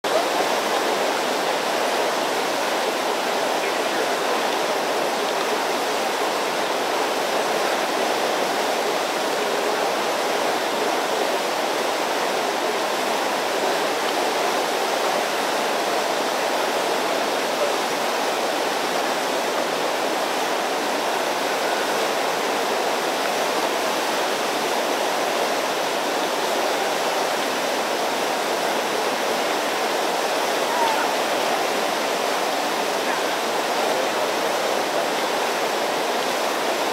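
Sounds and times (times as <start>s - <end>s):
river rapids rushing over rocks: 0.0s - 36.9s.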